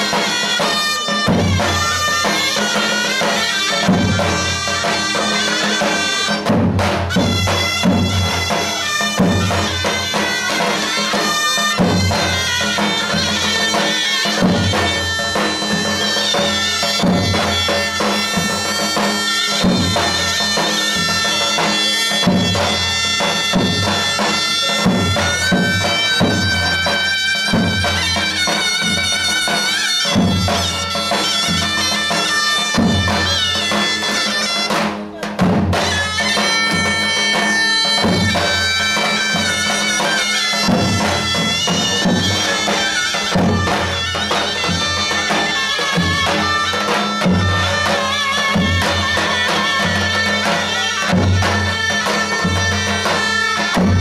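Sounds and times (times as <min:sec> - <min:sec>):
shrill double-reed melody: 0:00.0 - 0:54.0.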